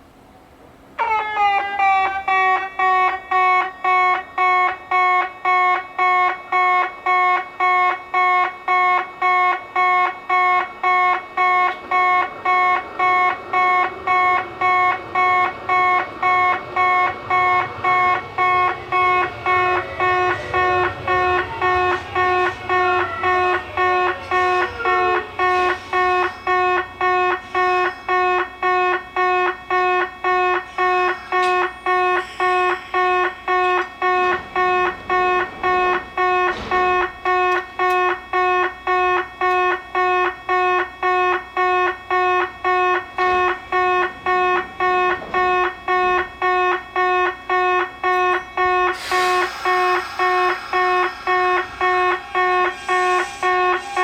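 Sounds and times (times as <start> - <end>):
rushing train: 0.0 - 54.0
level crossing warning bell: 1.0 - 54.0.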